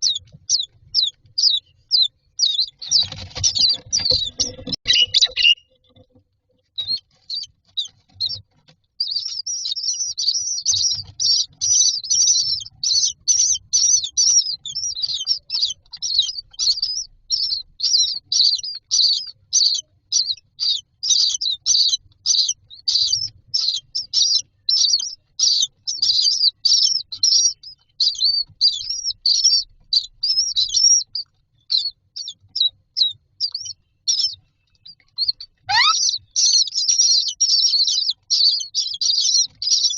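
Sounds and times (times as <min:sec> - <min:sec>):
chicks begging calls: 0:00.0 - 0:39.9.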